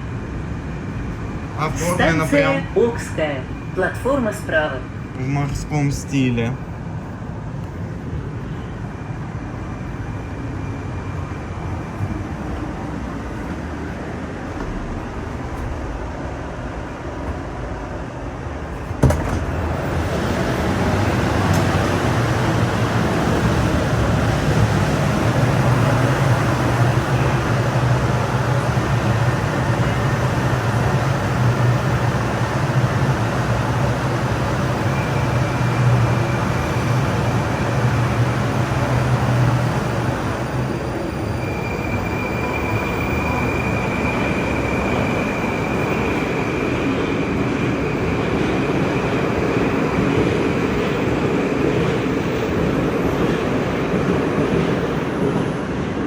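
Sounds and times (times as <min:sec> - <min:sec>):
metro train running: 0:00.0 - 0:56.0.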